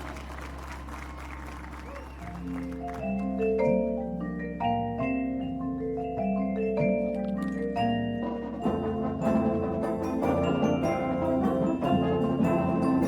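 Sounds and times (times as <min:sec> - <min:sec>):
marimbas and vibraphones playing chords: 0:02.1 - 0:13.0.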